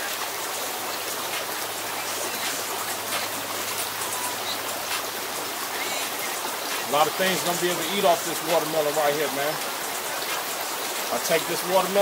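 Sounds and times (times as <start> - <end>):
creek water babbling over rocks: 0.0 - 12.0.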